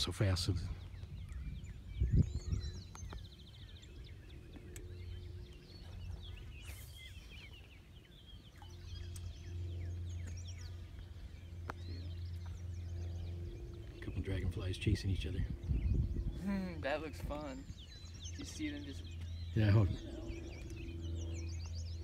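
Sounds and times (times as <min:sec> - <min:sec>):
birds singing and chirping: 0:00.0 - 0:22.0
low rumble: 0:00.0 - 0:22.0.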